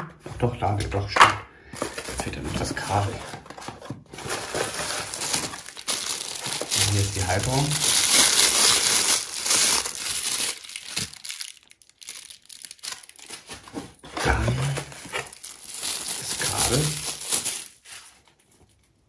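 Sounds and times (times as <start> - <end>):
plastic bags crinkling: 1.8 - 19.0.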